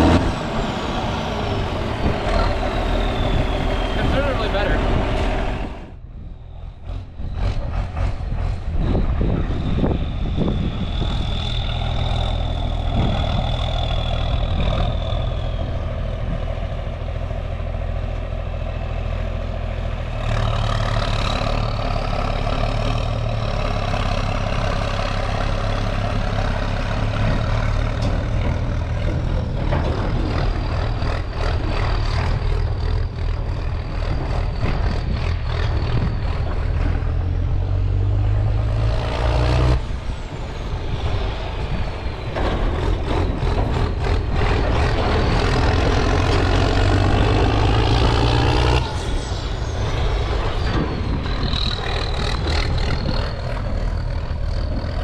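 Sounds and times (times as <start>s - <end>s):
heavy farm engine running: 0.0s - 55.0s.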